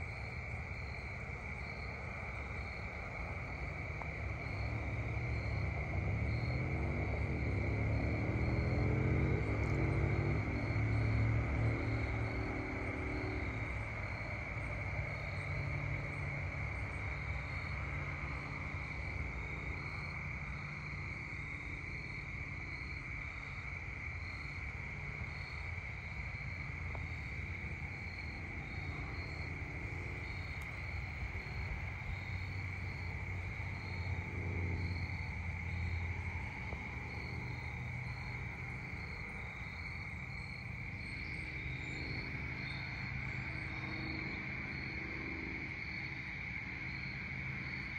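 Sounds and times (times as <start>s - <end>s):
low steady rumble: 0.0s - 46.7s
crickets trilling: 0.0s - 47.9s
higher pulsing insect call: 0.0s - 47.9s.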